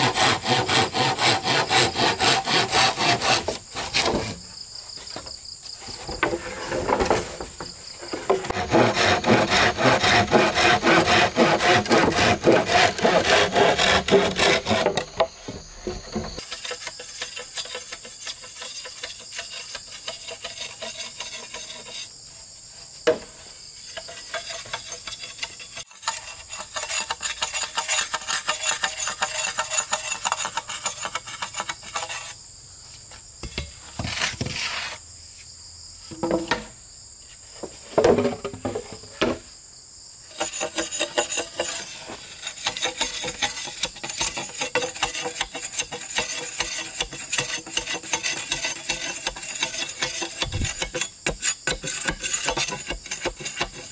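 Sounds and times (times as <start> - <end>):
machete scraping bamboo pole: 0.0 - 4.5, 5.8 - 22.2, 22.9 - 32.4, 33.4 - 35.1, 40.3 - 53.9
insects droning: 0.0 - 53.9.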